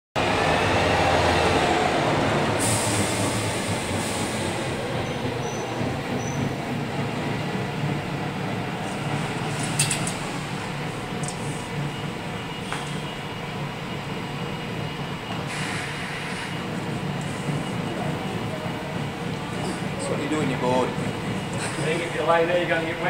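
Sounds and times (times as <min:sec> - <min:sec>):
train rumbling: 0:00.2 - 0:23.0.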